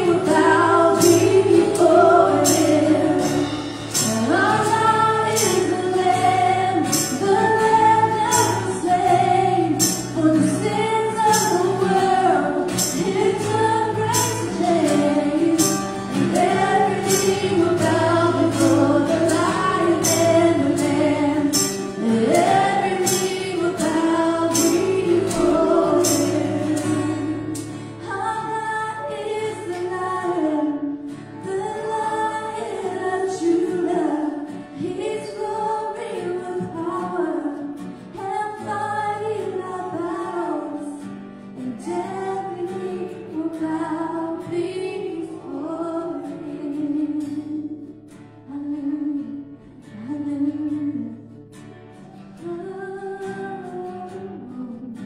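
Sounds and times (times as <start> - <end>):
women singing worship song: 0.0 - 47.9, 52.4 - 55.0
acoustic guitar: 0.0 - 55.0.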